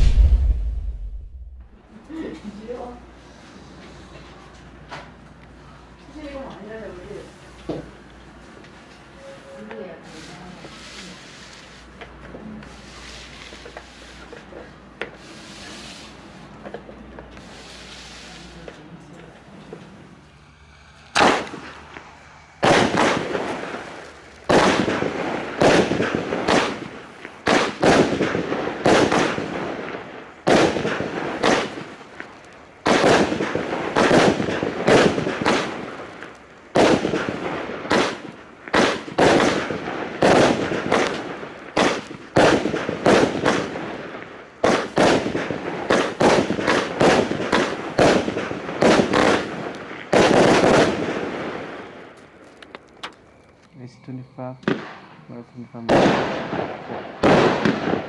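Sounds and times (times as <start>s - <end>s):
fireworks bangs: 0.0s - 1.8s, 9.8s - 53.4s, 54.5s - 58.0s.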